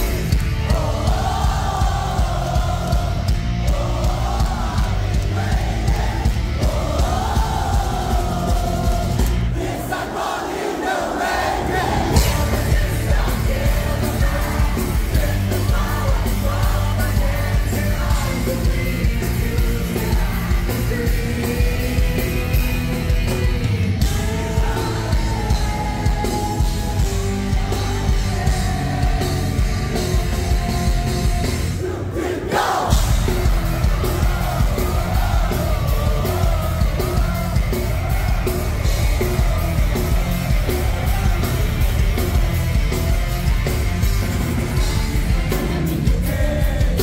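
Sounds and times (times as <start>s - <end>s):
live rock band playing: 0.0s - 9.6s, 11.8s - 31.9s, 32.8s - 47.0s.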